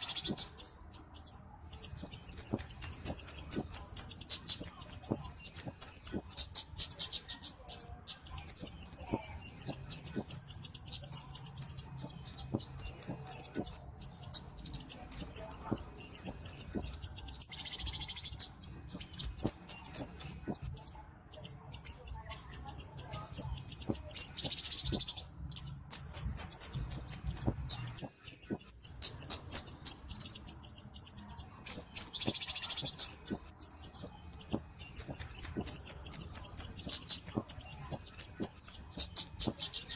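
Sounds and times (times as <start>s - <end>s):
bird twittering chirps: 0.0s - 39.9s.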